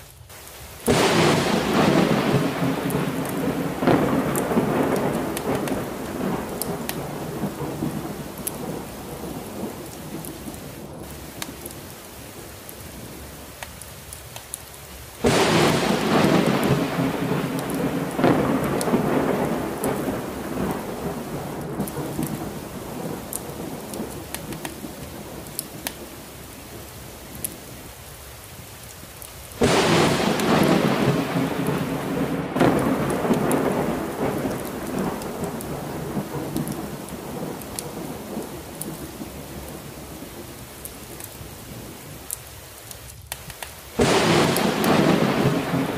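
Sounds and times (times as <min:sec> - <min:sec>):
heavy rain: 0:00.0 - 0:45.9
thunderclaps: 0:00.8 - 0:13.6, 0:15.2 - 0:27.6, 0:29.6 - 0:42.0, 0:43.3 - 0:45.9.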